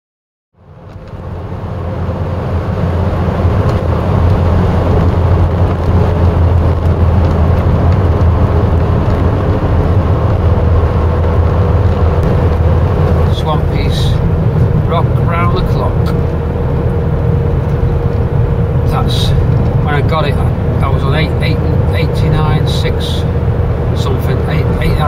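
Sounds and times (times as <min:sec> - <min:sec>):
car engine and road drone: 0:00.6 - 0:25.0.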